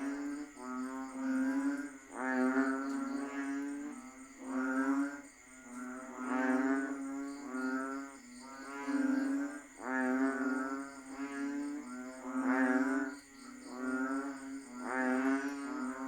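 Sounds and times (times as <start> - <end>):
frogs calling in chorus: 0.0 - 16.0.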